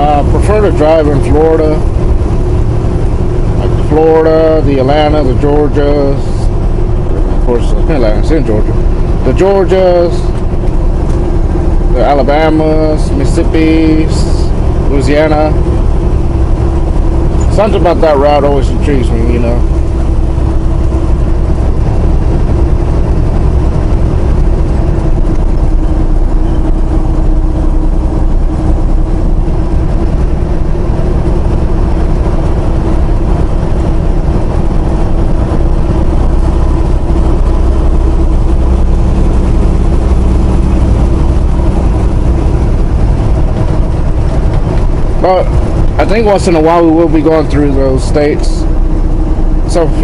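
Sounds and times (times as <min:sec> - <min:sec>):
constant hum: 0:00.0 - 0:50.0
road noise: 0:00.0 - 0:50.0
truck engine drone: 0:00.0 - 0:50.0.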